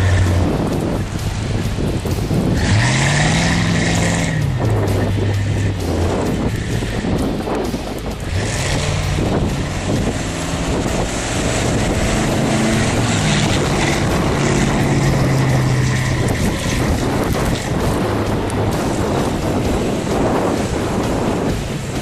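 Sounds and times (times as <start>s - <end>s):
car engine running: 0.0s - 22.0s
road and wind noise: 0.0s - 22.0s.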